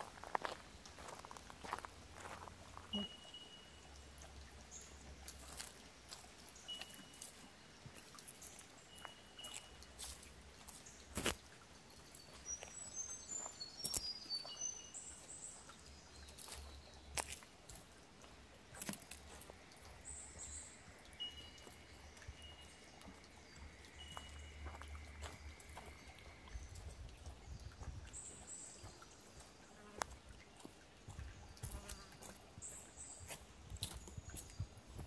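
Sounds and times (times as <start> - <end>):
footsteps on forest track: 0.0 - 3.2, 5.2 - 35.0.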